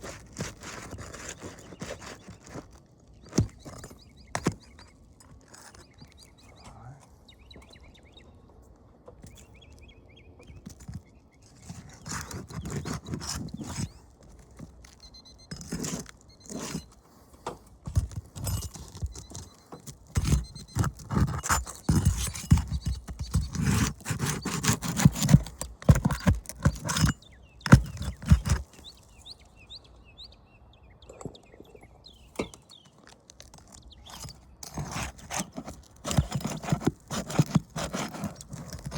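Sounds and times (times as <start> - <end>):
hand tools scraping on shingles: 0.0 - 6.6, 10.7 - 29.7, 32.3 - 38.9.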